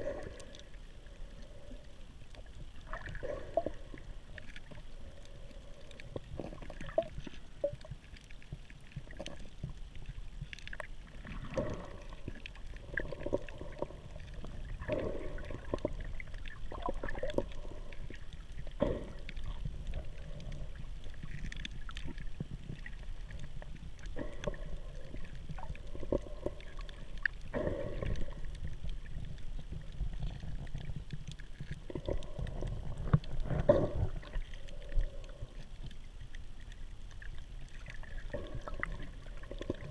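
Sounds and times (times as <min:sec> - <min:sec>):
underwater water rushing: 0:00.0 - 0:39.9.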